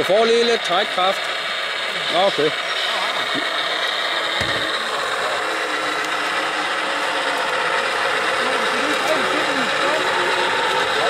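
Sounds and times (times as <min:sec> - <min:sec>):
electric motor and gearbox whirr: 0:00.0 - 0:11.0.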